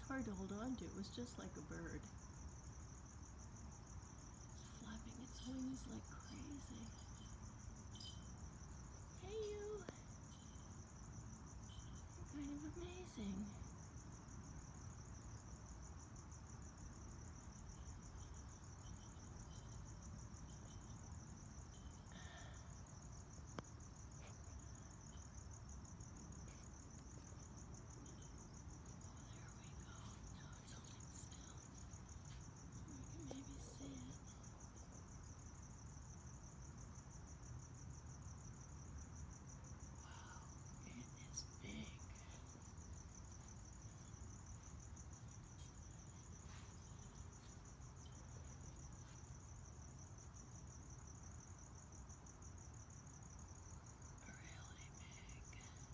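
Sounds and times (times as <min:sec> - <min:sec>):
low background hum: 0:00.0 - 0:36.0, 0:39.7 - 0:51.5, 0:53.1 - 0:55.9
cricket trilling: 0:00.0 - 0:55.9.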